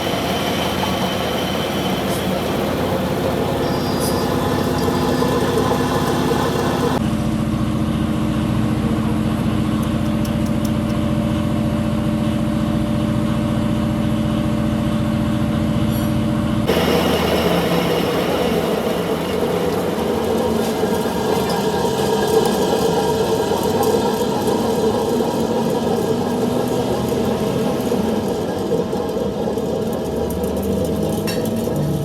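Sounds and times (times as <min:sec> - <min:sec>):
workshop machinery motor hum: 0:00.0 - 0:32.0.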